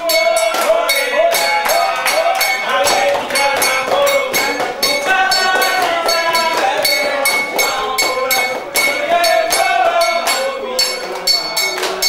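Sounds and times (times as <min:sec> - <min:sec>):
metal bell struck in rhythm: 0:00.0 - 0:12.0
voices singing: 0:00.0 - 0:12.0.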